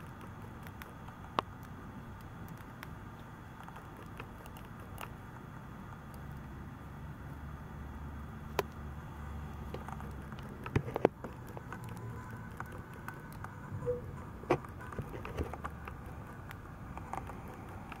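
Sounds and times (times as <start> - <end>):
mice gnawing with crunches: 0.0 - 18.0
steady low hum: 0.0 - 18.0.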